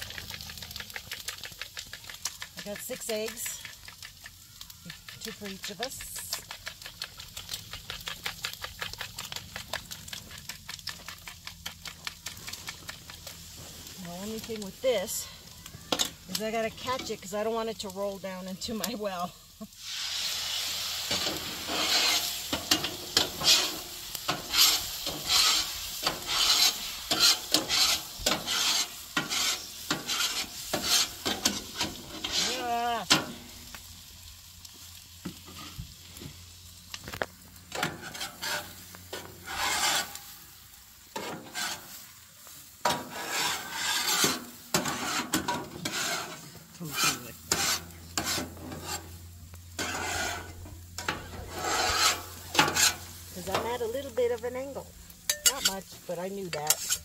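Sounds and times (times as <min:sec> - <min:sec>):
utensil scraping a pan: 0:00.0 - 0:04.3, 0:04.9 - 0:15.3, 0:15.9 - 0:18.9, 0:19.8 - 0:33.4, 0:37.1 - 0:57.0
food sizzling in a pan: 0:00.0 - 0:57.0.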